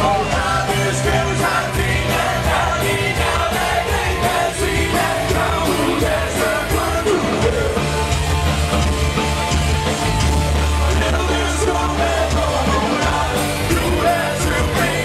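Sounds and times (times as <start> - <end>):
loud rock music with singer: 0.0 - 15.0.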